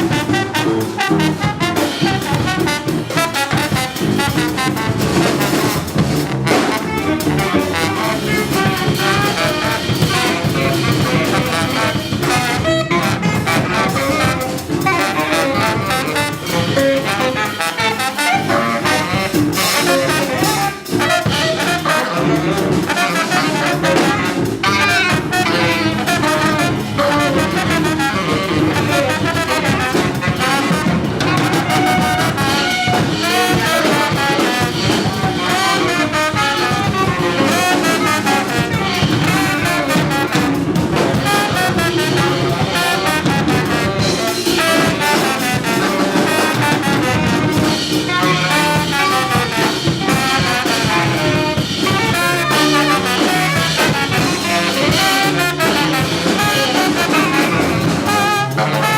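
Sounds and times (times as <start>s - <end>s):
bass: 0.0s - 58.9s
busy drums: 0.0s - 58.9s
tenor saxophone: 0.0s - 58.9s
trombone: 0.0s - 58.9s.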